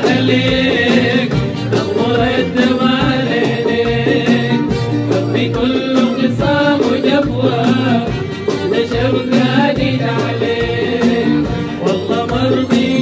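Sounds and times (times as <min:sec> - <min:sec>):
hand percussion beat: 0:00.0 - 0:13.0
man singing: 0:00.0 - 0:13.0
string orchestra: 0:00.0 - 0:13.0.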